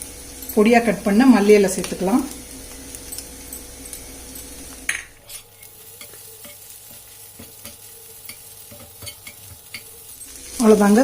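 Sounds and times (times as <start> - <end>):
food sizzling on a hot griddle: 0.0 - 11.0.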